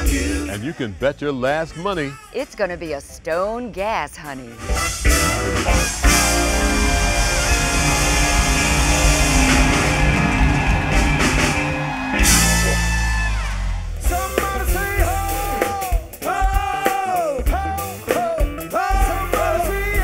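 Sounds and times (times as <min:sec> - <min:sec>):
band with drums and guitar: 0:00.0 - 0:00.6, 0:04.2 - 0:20.0.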